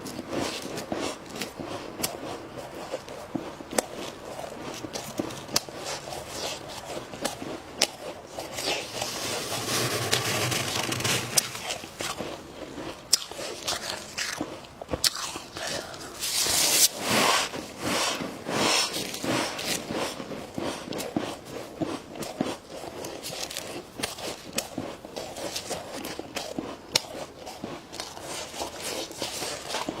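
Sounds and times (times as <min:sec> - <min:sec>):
frost being chewed crunching: 0:00.0 - 0:30.0.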